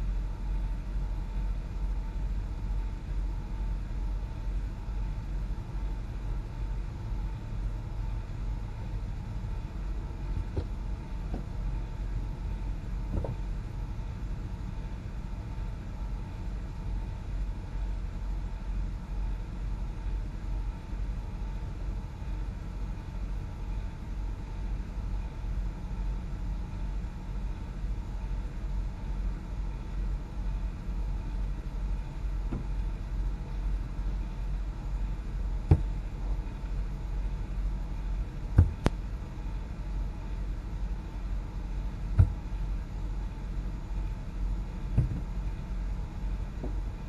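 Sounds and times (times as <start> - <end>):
truck engine and road rumble: 0.0 - 47.0.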